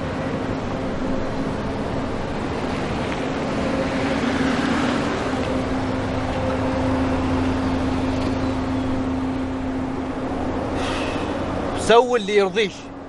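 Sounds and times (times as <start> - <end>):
car engine running: 0.0 - 13.0
street traffic: 0.0 - 13.0.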